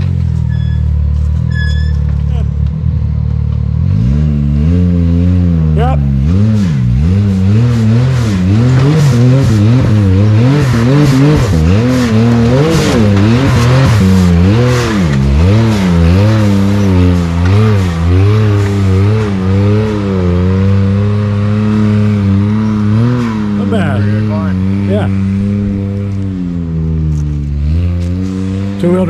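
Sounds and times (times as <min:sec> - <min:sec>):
engine revving in bursts: 0:02.2 - 0:29.0.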